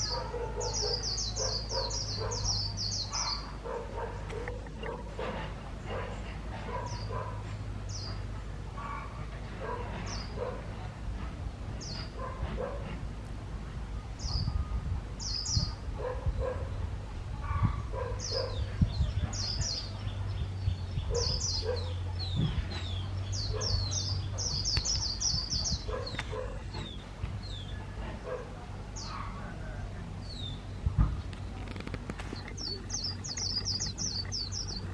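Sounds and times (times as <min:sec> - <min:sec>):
bird twittering song: 0:00.0 - 0:10.6, 0:11.7 - 0:12.7, 0:14.2 - 0:29.4, 0:30.2 - 0:34.9.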